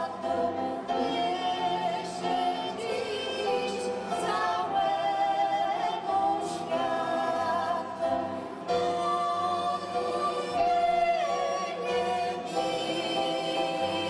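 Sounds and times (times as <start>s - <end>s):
vocal group singing a carol: 0.0s - 14.0s.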